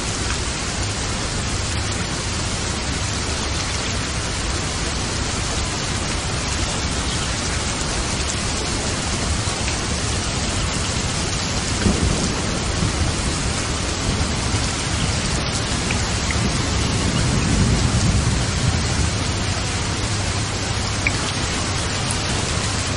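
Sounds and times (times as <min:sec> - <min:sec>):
heavy rain: 0:00.0 - 0:22.9
thunder rumbling: 0:02.8 - 0:22.9.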